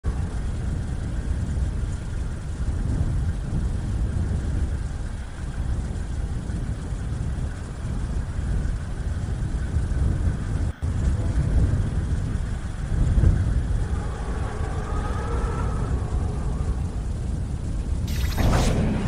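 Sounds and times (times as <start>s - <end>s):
strong wind gusts: 0.0s - 19.0s.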